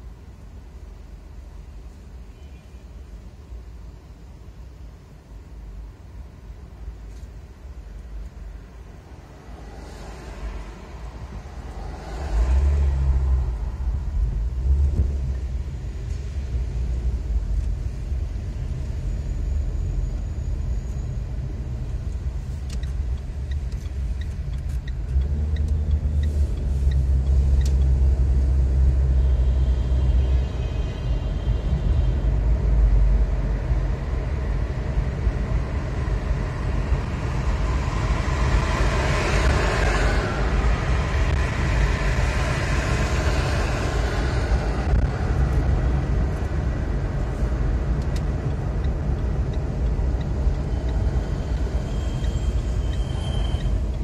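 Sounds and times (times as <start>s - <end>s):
engine and road rumble: 0.0s - 54.0s
tyres hissing and passing traffic: 0.0s - 54.0s.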